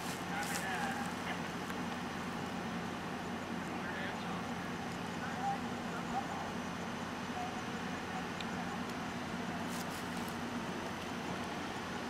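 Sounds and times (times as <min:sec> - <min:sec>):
locomotive engine droning: 0:00.0 - 0:12.0.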